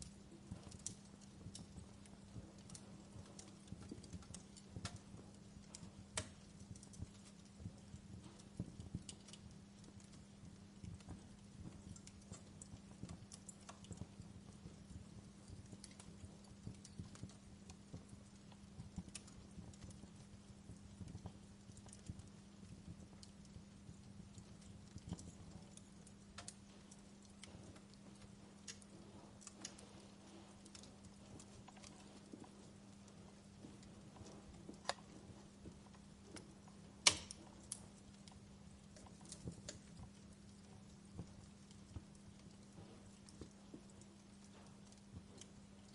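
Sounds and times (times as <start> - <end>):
faint steady hum: 0.0 - 45.9
wood fire crackling: 0.0 - 45.9.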